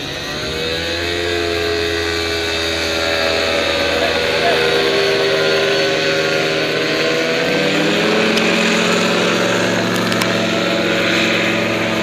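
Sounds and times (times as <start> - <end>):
paramotor engine droning overhead: 0.0 - 12.0.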